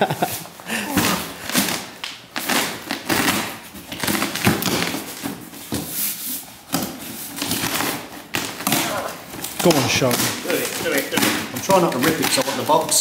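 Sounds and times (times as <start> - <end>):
hands scratching and rustling cardboard: 0.2 - 13.0.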